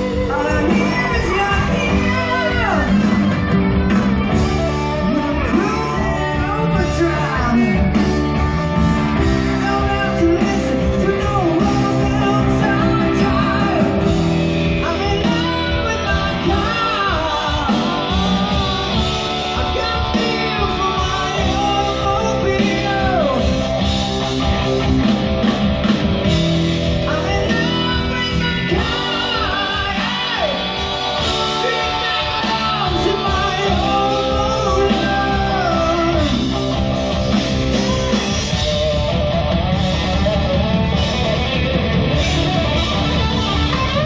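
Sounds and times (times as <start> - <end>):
man singing lead vocal: 0.0 - 39.3
electric guitar: 0.0 - 44.0
live rock band playing: 0.0 - 44.0.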